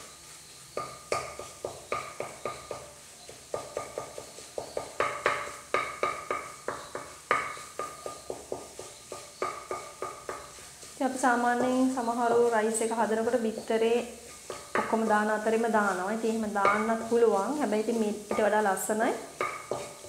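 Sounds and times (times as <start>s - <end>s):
wooden spatula scraping frying pan: 0.0s - 20.0s.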